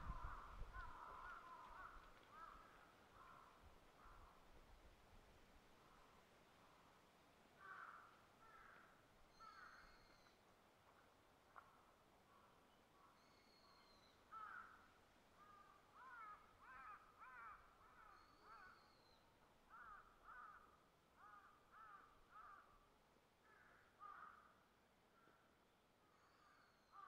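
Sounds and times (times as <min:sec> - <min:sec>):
faint crows cawing: 0:00.0 - 0:04.5, 0:07.6 - 0:10.4, 0:11.5 - 0:27.0.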